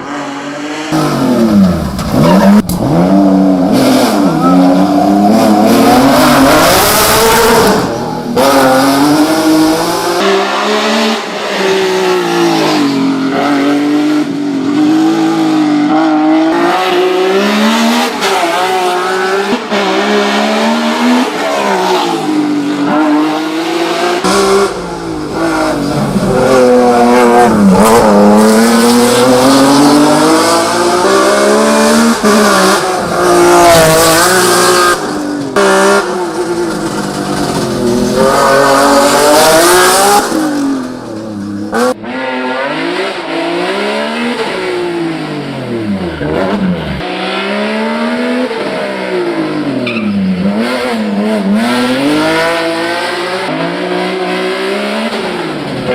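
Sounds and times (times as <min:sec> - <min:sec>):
race car engine at full throttle: 0:00.0 - 0:55.9.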